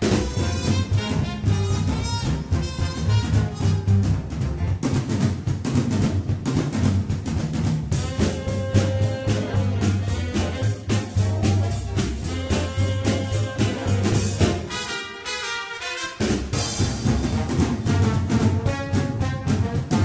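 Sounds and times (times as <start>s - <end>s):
music with brass and drums: 0.0s - 20.0s.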